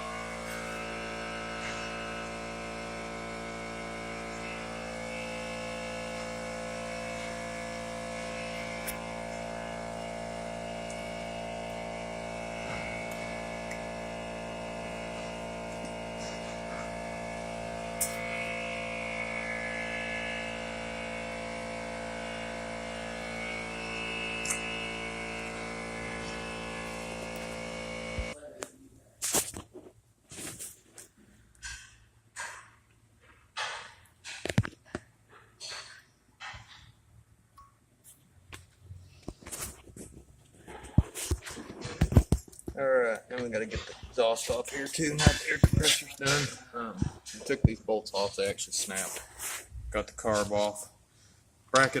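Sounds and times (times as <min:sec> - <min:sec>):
air compressor humming: 0:00.0 - 0:28.5, 0:38.6 - 0:52.0.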